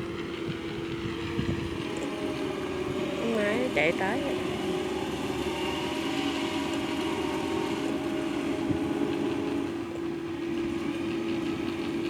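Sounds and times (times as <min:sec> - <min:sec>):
farm machine engine droning: 0:00.0 - 0:12.0.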